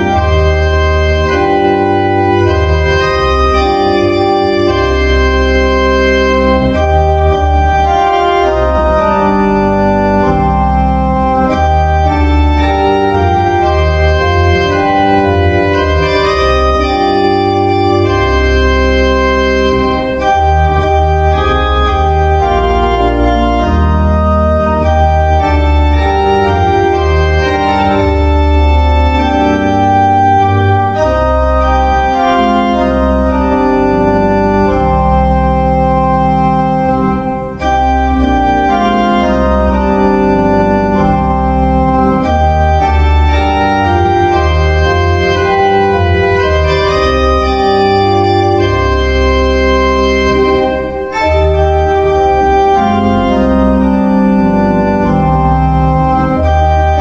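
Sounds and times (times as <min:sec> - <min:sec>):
organ playing slow chords: 0:00.0 - 0:57.0.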